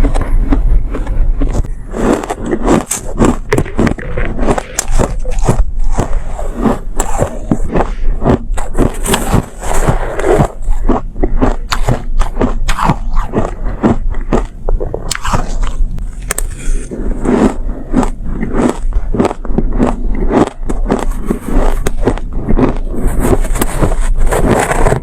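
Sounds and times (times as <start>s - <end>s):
chewing crunchy ice: 0.0s - 25.0s.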